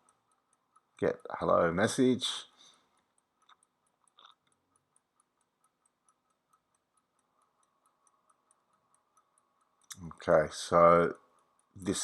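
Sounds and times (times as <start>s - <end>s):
faint fast ticking: 0.0s - 12.0s.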